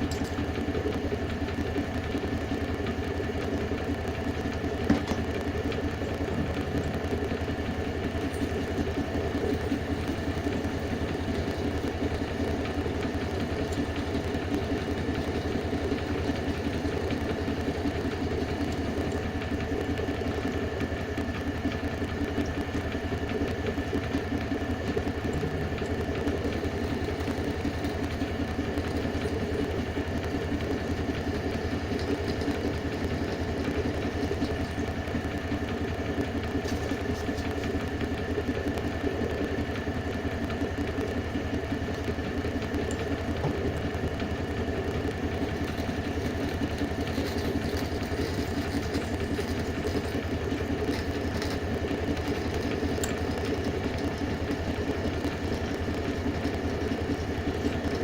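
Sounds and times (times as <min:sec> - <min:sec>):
belt sander motor running: 0:00.0 - 0:58.0.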